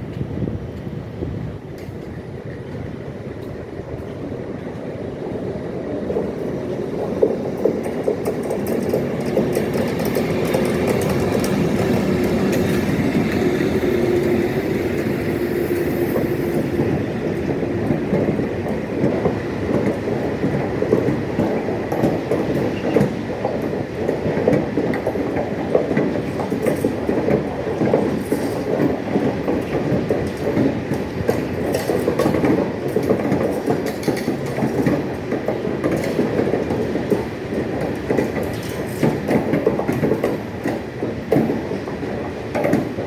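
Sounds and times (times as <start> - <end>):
freight train rumbling past: 0.0 - 43.0
wheels clattering over rails: 0.0 - 43.0.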